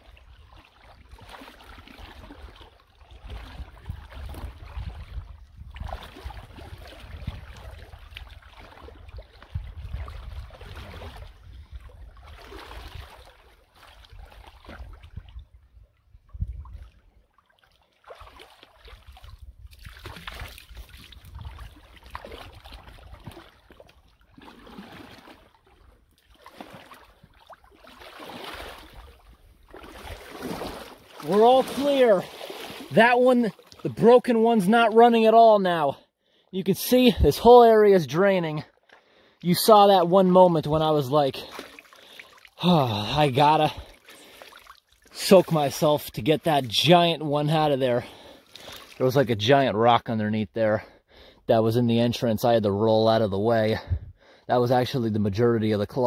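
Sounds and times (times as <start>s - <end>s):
splashing footsteps in water: 0.0s - 15.6s, 16.4s - 35.4s, 36.8s - 49.2s
creek water sloshing and trickling: 0.0s - 56.0s.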